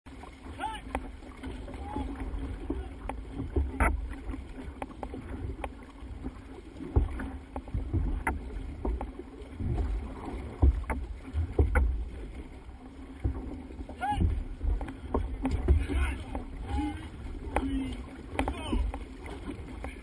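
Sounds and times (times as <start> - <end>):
water slapping against canoe hull: 0.1 - 20.0.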